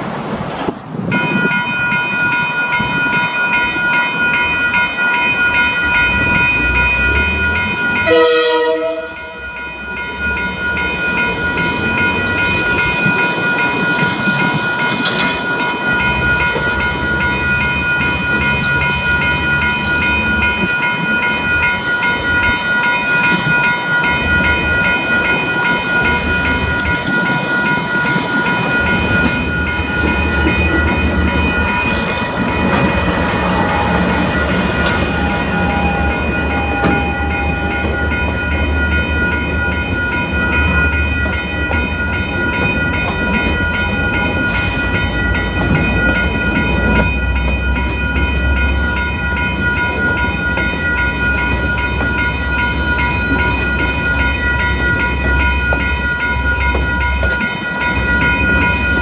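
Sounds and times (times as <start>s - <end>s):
diesel locomotive rumbling past: 0.0s - 59.0s
level crossing alarm bells: 1.1s - 59.0s.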